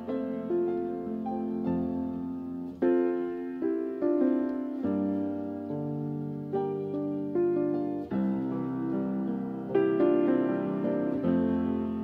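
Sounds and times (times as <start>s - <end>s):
calm piano melody: 0.0s - 12.0s.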